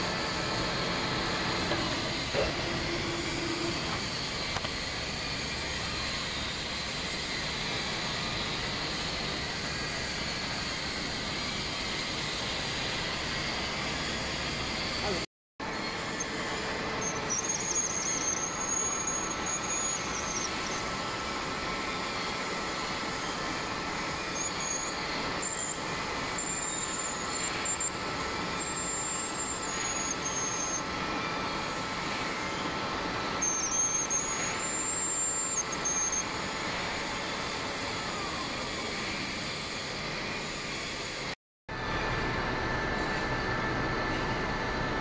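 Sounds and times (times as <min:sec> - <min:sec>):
high-pitched cutting squeals: 0:00.0 - 0:41.3
metal lathe humming: 0:00.0 - 0:45.0.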